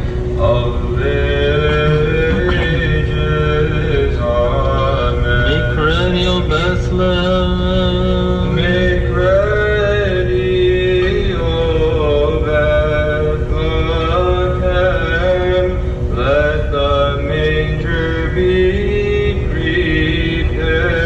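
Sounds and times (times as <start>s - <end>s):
slow male vocal chant: 0.0s - 21.0s.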